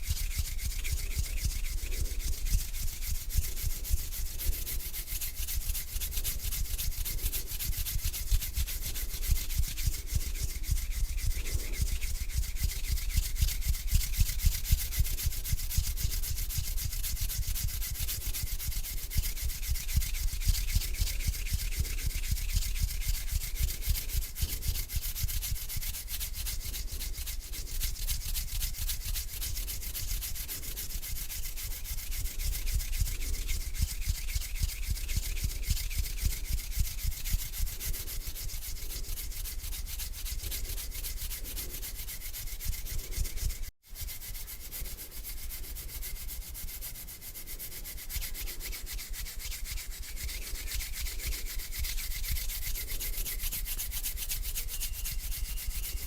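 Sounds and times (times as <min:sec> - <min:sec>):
hands rubbing together: 0:00.0 - 0:56.0.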